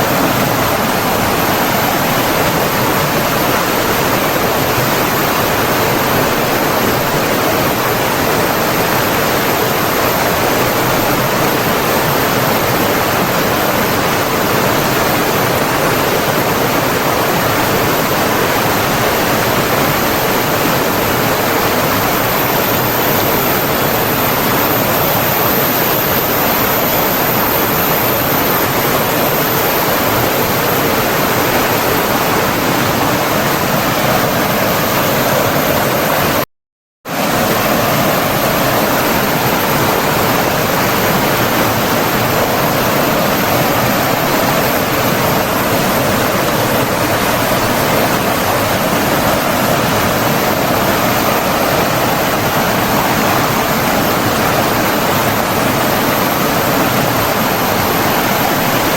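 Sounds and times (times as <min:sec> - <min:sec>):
water rushing: 0:00.0 - 0:36.4, 0:37.1 - 0:58.9.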